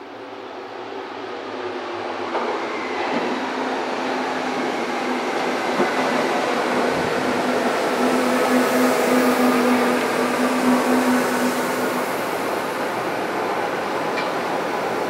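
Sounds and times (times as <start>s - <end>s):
rushing rail and wheel noise: 0.0s - 15.0s.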